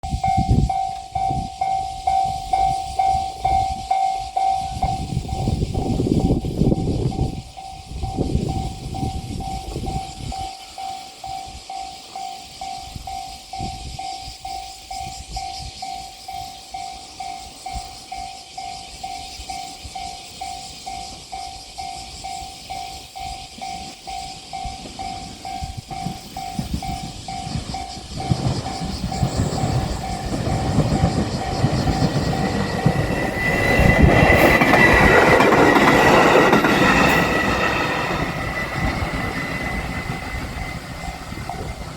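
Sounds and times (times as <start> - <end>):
electric train rumble: 0.0 - 41.9
high steady tone: 0.0 - 41.9
railroad crossing bell clanging: 0.0 - 41.9.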